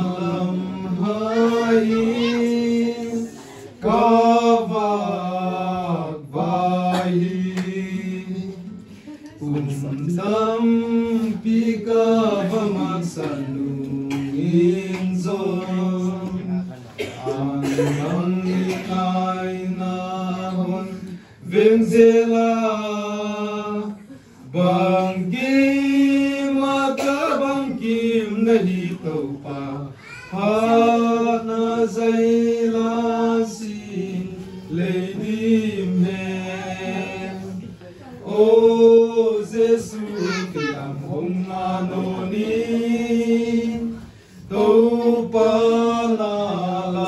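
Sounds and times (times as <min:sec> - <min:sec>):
men chanting together: 0:00.0 - 0:47.0.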